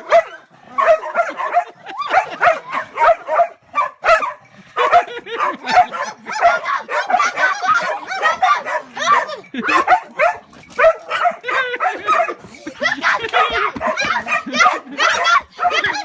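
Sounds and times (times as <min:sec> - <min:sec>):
dog barking and yipping: 0:00.0 - 0:16.0.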